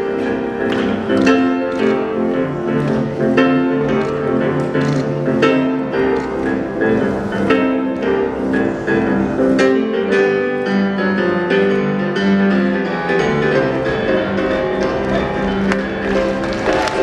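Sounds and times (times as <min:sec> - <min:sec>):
piano rock and roll music: 0:00.0 - 0:17.0.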